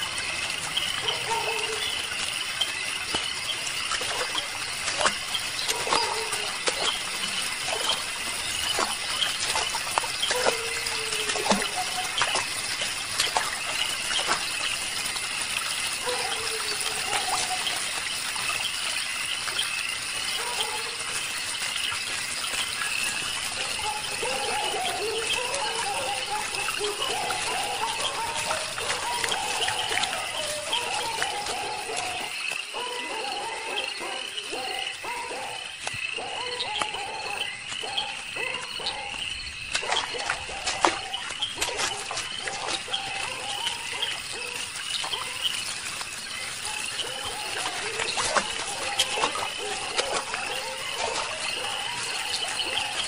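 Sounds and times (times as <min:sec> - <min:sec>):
frogs croaking: 0:00.0 - 0:53.0
running gushing water: 0:00.0 - 0:53.0.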